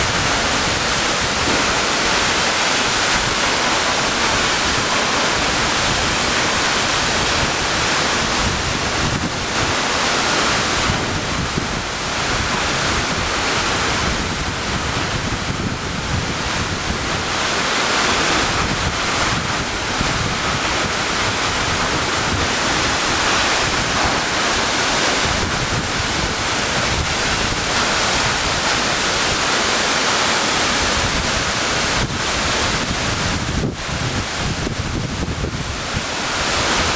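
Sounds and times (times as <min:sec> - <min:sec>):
wind buffeting microphone: 0:00.0 - 0:29.6, 0:30.7 - 0:36.9
rush of falling water: 0:00.0 - 0:36.9.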